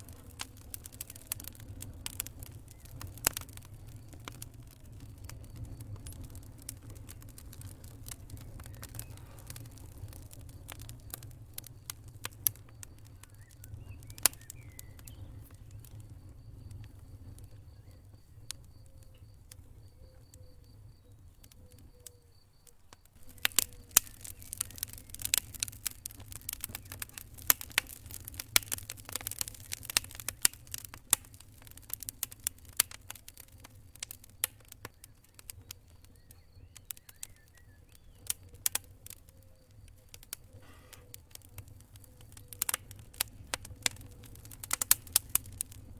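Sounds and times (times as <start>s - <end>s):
fire popping and snapping: 0.0s - 45.9s
flames rumbling: 0.0s - 45.9s
wood fire crackling: 0.0s - 45.9s.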